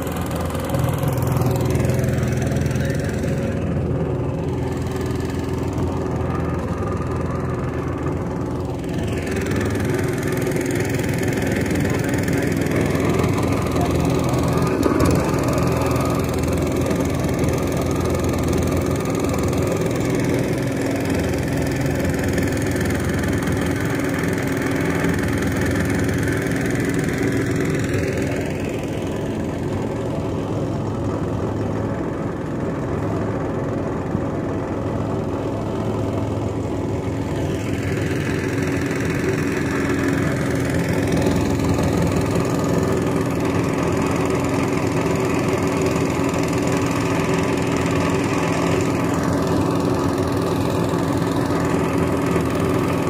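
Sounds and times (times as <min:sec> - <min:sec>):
boat engine humming: 0:00.0 - 0:53.0.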